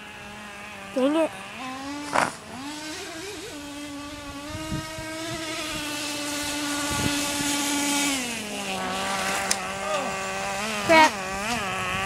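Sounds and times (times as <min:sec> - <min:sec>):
small rc car engine running: 0:00.0 - 0:12.0.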